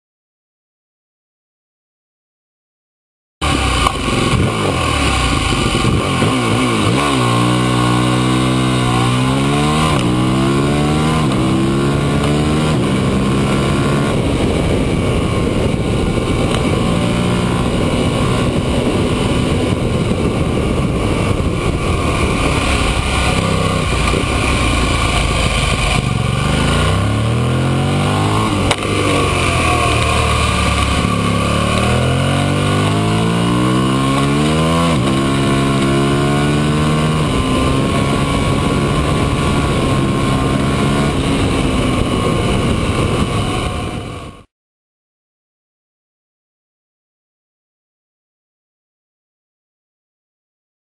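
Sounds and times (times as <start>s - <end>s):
motorcycle engine accelerating: 3.4s - 44.5s
wind rushing over microphone: 3.4s - 44.5s.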